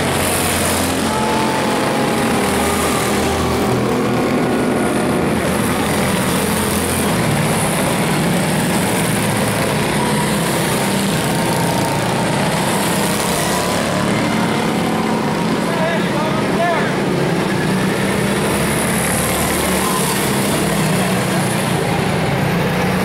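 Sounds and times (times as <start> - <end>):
small race car engines buzzing: 0.0 - 23.0.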